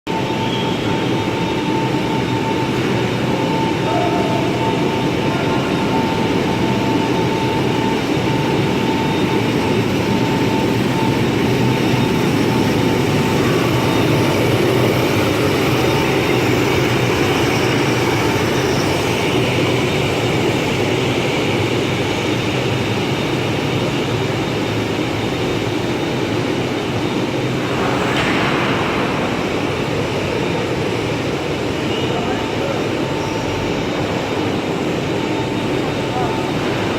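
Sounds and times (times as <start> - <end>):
floor grinder drone: 0.1 - 36.9.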